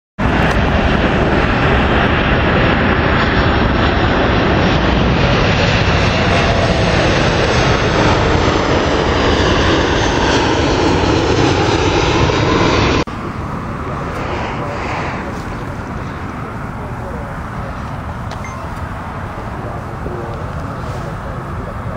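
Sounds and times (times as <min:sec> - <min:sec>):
jet engines rushing and whining: 0:00.2 - 0:21.9.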